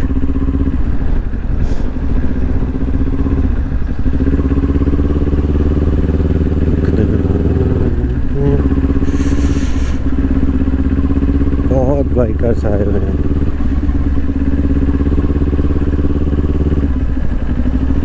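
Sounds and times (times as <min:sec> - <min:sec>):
motorcycle engine running at low revs: 0:00.0 - 0:18.0.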